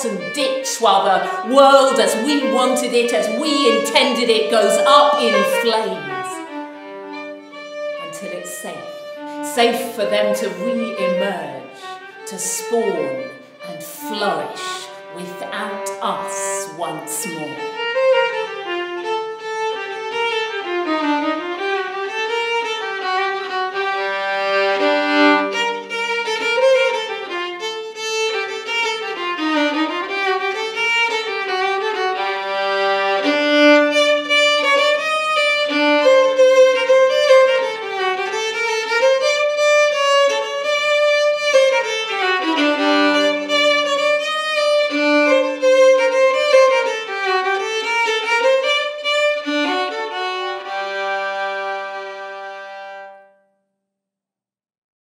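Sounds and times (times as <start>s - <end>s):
solo violin melody: 0.0s - 53.5s.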